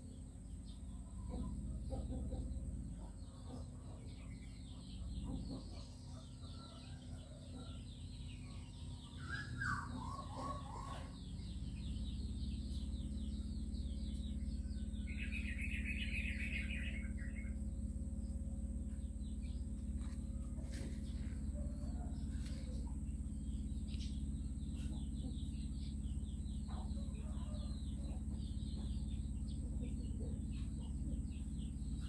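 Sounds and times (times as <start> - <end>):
low hum: 0.0 - 32.0
small birds chirping: 0.0 - 32.0.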